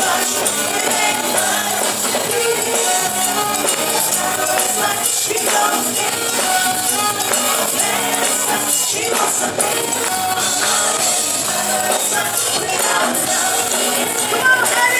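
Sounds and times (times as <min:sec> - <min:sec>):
live band music: 0:00.0 - 0:14.9
people singing: 0:00.0 - 0:14.9.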